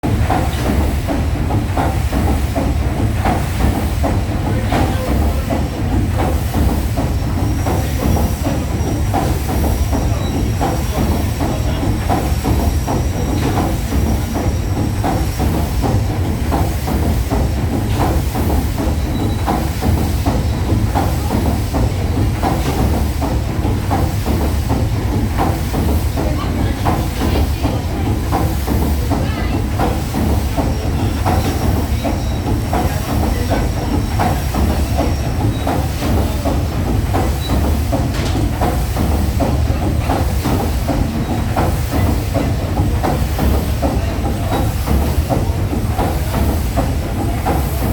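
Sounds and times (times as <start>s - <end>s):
steam engine clanking: 0.0s - 47.9s
steam hissing: 0.0s - 47.9s.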